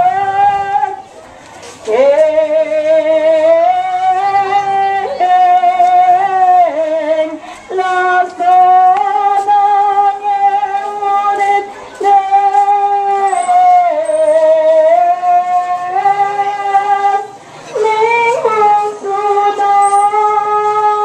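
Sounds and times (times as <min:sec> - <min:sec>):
woman singing long notes: 0:00.0 - 0:01.0, 0:01.8 - 0:21.0.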